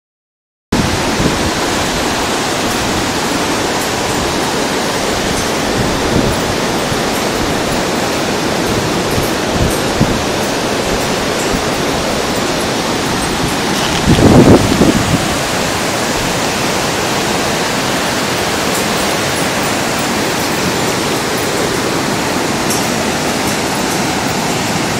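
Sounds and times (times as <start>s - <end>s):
fast-flowing river rushing: 0.8s - 24.9s.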